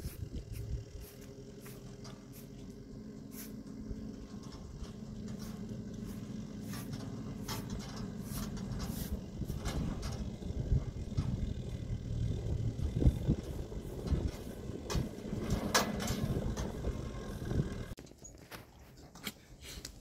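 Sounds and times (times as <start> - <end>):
truck engine running at low speed: 0.0 - 18.0.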